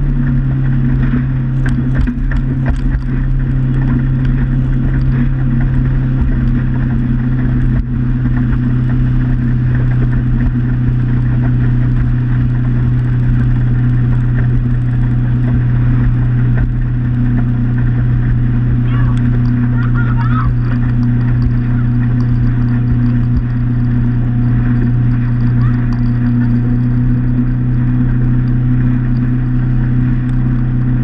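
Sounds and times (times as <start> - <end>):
motorboat engine droning: 0.0 - 31.0.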